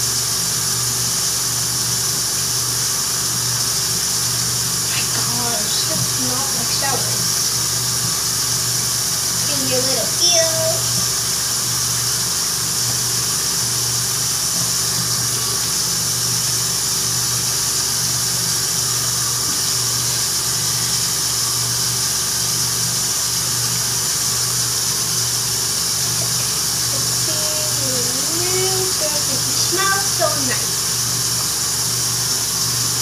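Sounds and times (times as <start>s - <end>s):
small electric motor whirring: 0.0s - 33.0s.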